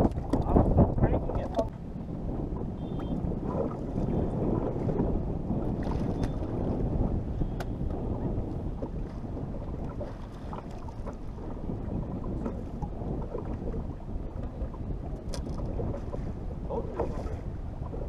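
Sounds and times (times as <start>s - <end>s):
waves lapping against hull: 0.0s - 18.0s
wind buffeting microphone: 0.0s - 18.0s.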